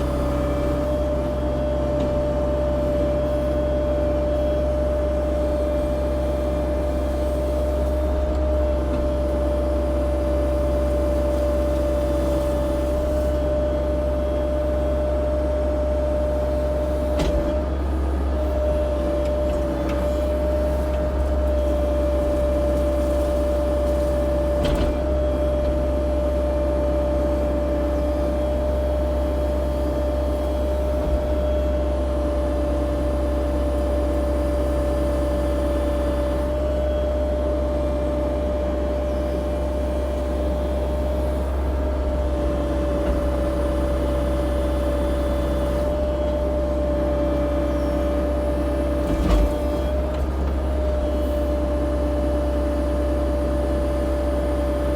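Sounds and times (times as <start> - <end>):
mini excavator engine running: 0.0 - 54.9.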